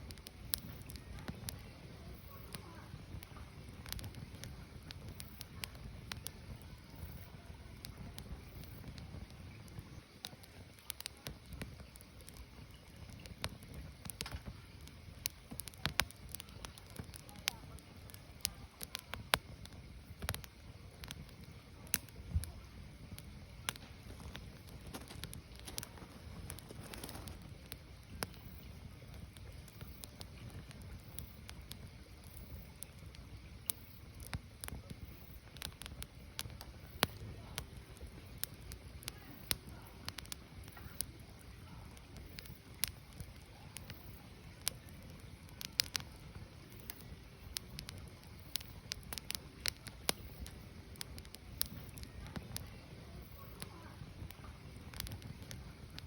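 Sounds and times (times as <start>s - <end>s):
firewood crackling and popping: 0.0s - 56.0s
low rumble of fire: 0.0s - 56.0s.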